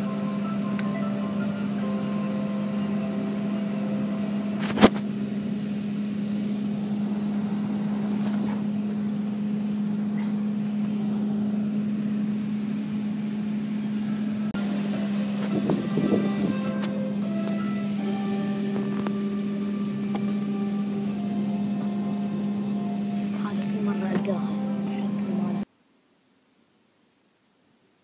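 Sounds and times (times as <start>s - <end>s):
aircraft cabin hum: 0.0s - 25.7s.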